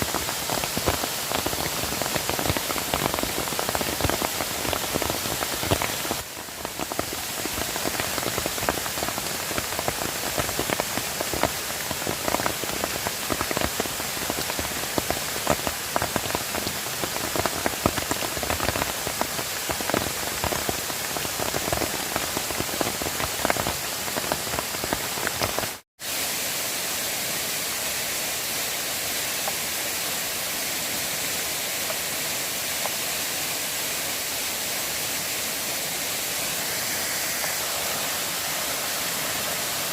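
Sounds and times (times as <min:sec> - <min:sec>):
heavy rain falling: 0:00.0 - 0:25.8, 0:29.2 - 0:39.9
water rushing: 0:00.0 - 0:39.9.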